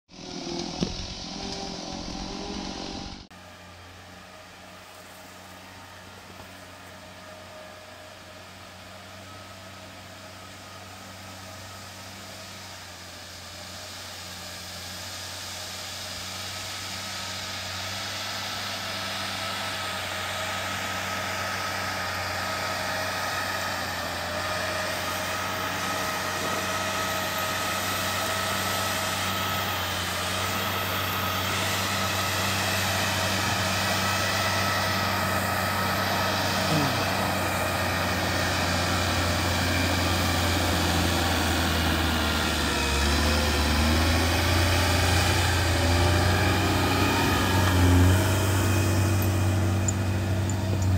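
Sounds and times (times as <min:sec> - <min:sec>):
diesel engine running: 0:00.1 - 0:50.9.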